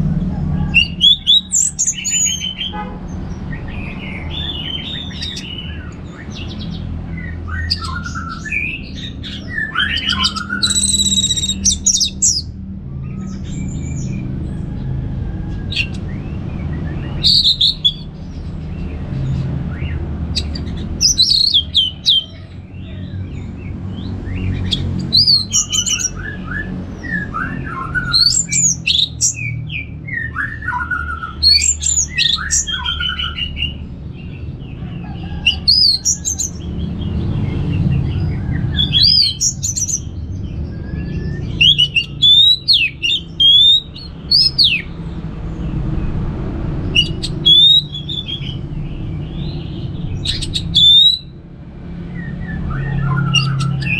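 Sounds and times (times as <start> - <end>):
thrush singing: 0.0 - 40.1, 40.9 - 53.9.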